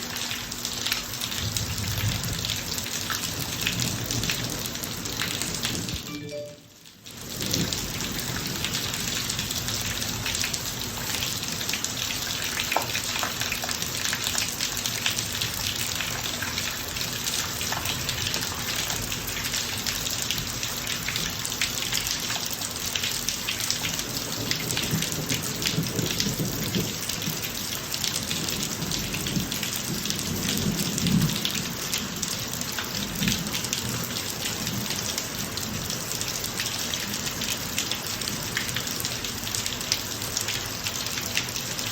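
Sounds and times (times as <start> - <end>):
rain falling on pavement: 0.0 - 41.9.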